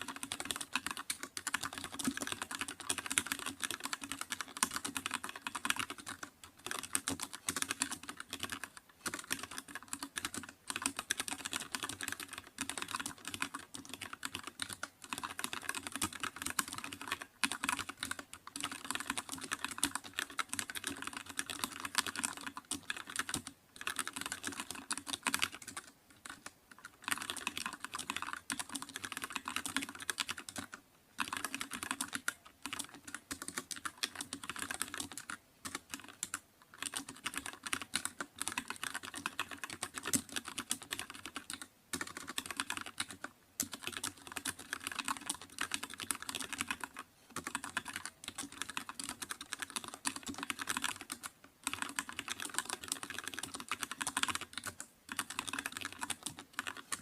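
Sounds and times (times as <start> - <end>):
typing on computer keyboard: 0.0 - 57.0.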